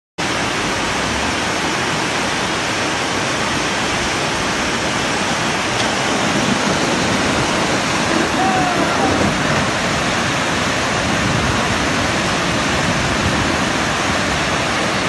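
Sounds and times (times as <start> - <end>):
floodwater rushing: 0.2 - 15.0.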